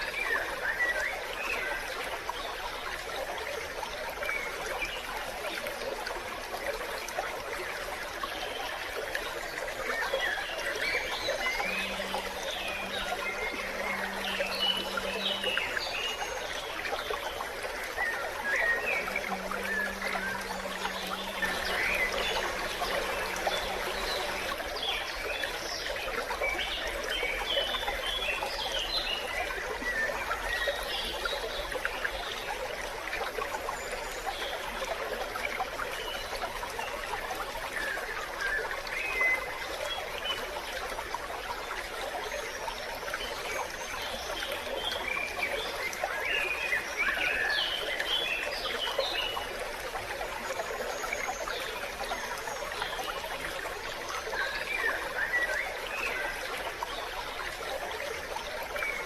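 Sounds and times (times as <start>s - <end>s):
stream water babbling: 0.0s - 59.0s.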